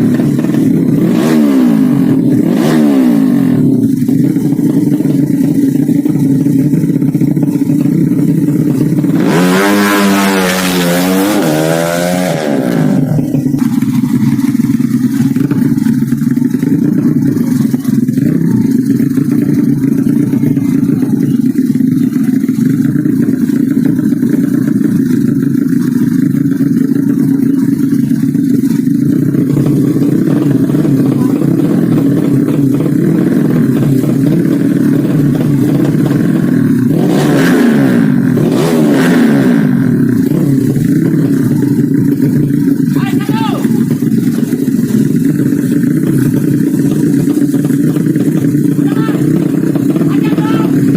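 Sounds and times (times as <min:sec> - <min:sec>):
low engine drone: 0:00.0 - 0:50.9
motorcycle at full throttle: 0:00.0 - 0:50.9.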